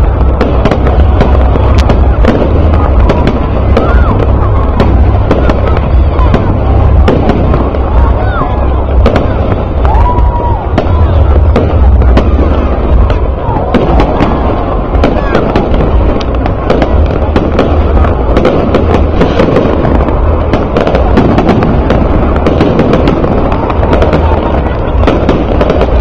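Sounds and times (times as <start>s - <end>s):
deep rumble of fireworks: 0.0s - 26.0s
fireworks popping and crackling: 0.0s - 26.0s.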